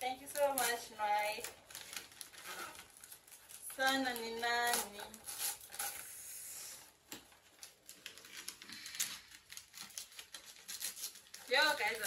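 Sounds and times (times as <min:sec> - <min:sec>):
paper and gift bag rustling: 0:00.0 - 0:12.0.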